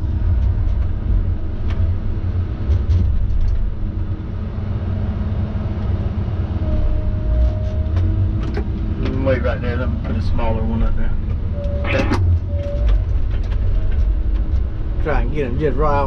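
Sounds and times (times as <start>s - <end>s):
heavy engine rumbling: 0.0s - 16.0s.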